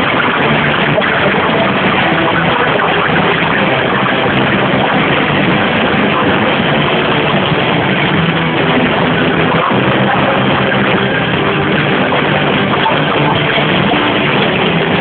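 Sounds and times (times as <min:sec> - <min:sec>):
distorted live rock band: 0:00.0 - 0:15.0.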